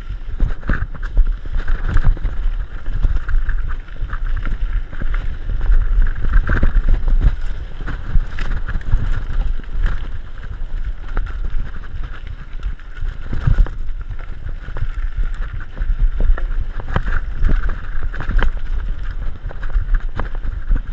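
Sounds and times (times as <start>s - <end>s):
bike clicks and rattles: 0.0s - 20.9s
tyres rumbling on loose stones: 0.0s - 20.9s
wind buffeting microphone: 0.0s - 20.9s.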